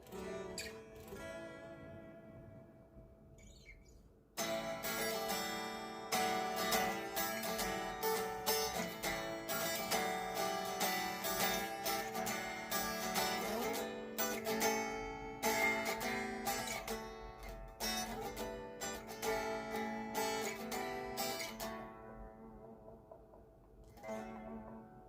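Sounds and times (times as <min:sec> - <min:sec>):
unplugged electric guitar strumming: 0:00.0 - 0:25.0.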